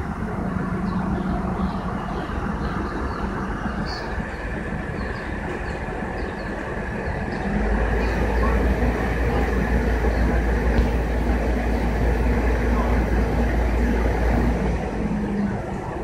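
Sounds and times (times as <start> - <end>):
crane diesel engine running: 0.0 - 16.0.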